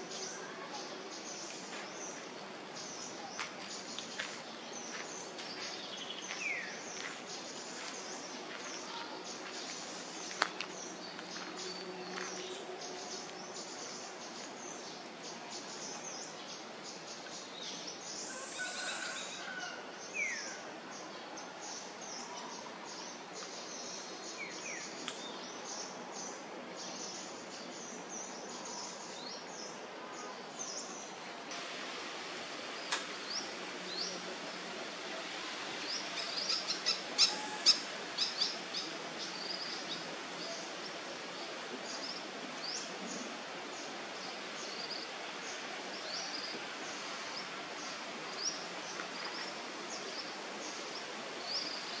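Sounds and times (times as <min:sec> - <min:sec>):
small birds chirping: 0:00.0 - 0:19.1, 0:20.1 - 0:52.0.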